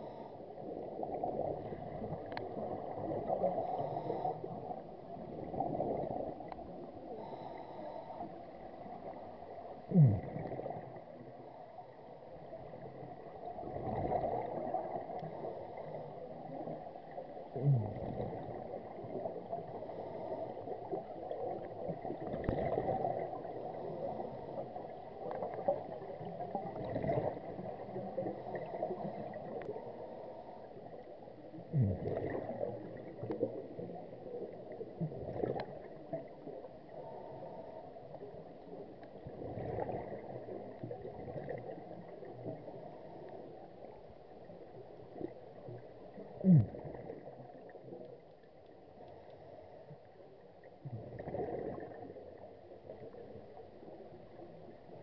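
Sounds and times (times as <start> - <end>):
regulator bubbles gurgling underwater: 0.0 - 55.0.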